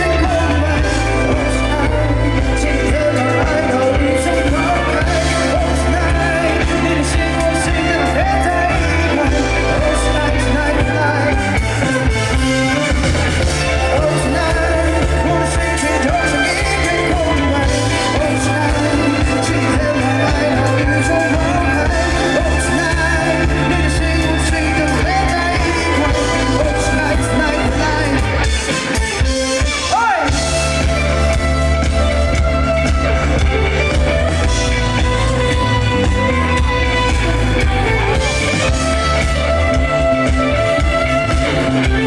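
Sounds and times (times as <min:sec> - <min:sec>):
indie pop band playing live: 0:00.0 - 0:42.0
person singing: 0:00.0 - 0:42.0.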